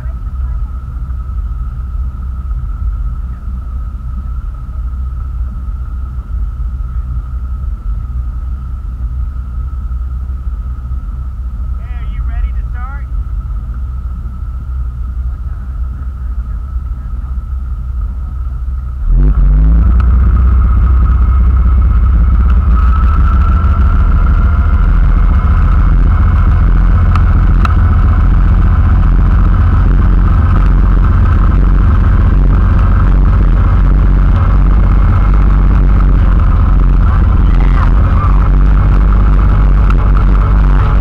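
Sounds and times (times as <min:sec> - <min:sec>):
motorboat engine: 0:00.0 - 0:41.0.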